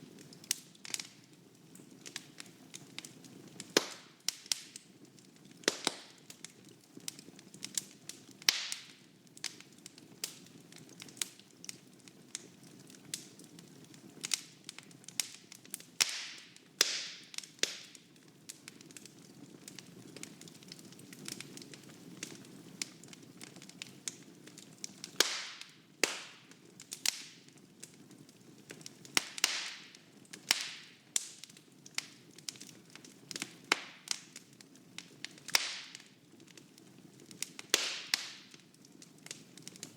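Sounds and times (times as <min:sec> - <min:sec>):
fire crackling and popping: 0:00.0 - 0:39.9
fire flame rumbling: 0:00.0 - 0:39.9.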